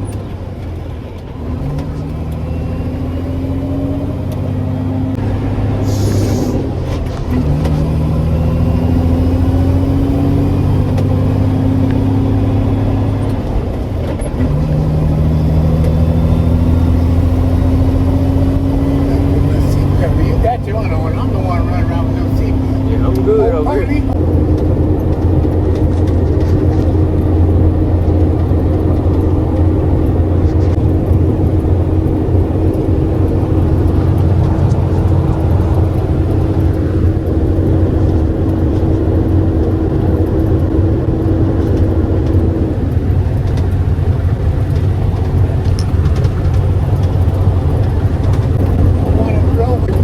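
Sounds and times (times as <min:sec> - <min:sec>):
truck engine and road noise: 0:00.0 - 0:50.0.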